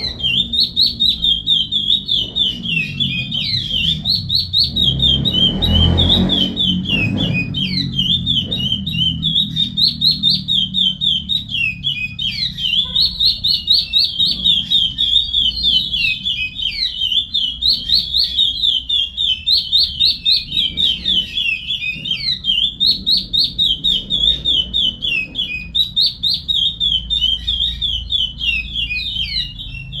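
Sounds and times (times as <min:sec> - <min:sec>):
finch singing whistled notes: 0:00.0 - 0:30.0.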